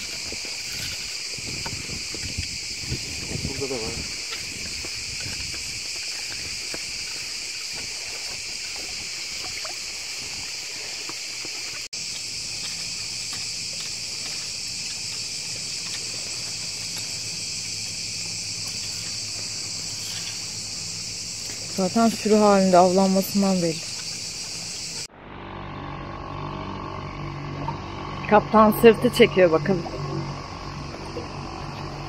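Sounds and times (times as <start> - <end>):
cicadas singing: 0.0 - 32.0.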